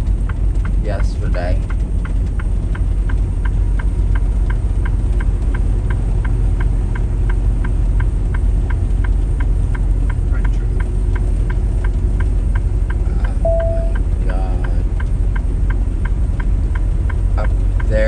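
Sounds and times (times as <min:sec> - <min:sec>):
light ticking: 0:00.0 - 0:18.0
truck engine and road rumble: 0:00.0 - 0:18.0.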